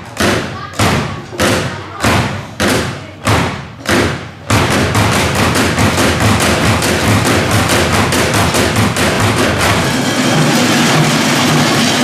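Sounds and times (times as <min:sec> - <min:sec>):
drumming on plastic cases: 0:00.0 - 0:12.0.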